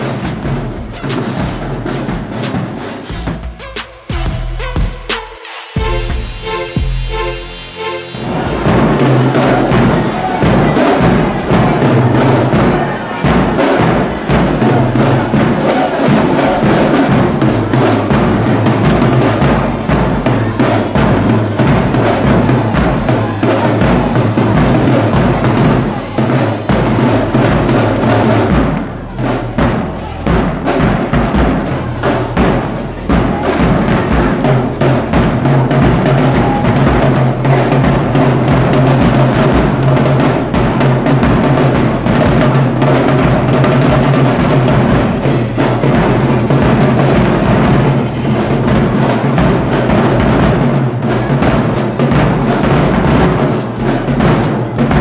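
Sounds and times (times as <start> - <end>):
marching drumline playing: 0.0 - 55.0.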